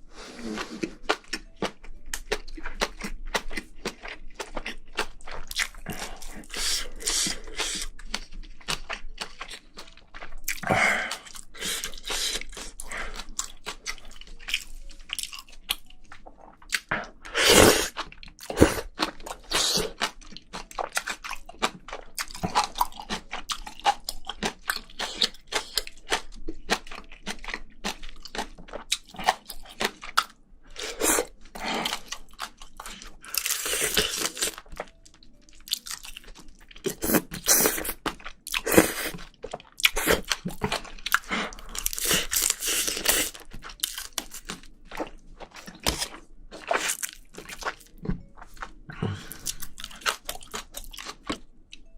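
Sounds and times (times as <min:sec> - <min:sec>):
person chewing and crunching: 0:00.2 - 0:51.9.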